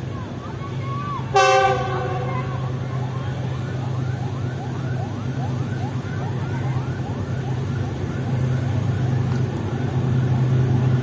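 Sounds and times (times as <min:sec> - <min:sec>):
locomotive engine drone: 0:00.0 - 0:11.0.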